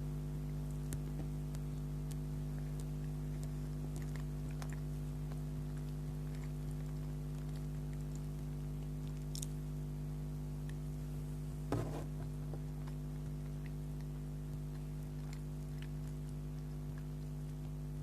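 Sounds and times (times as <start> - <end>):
low electrical hum: 0.0 - 18.0
faint chewing: 0.1 - 18.0.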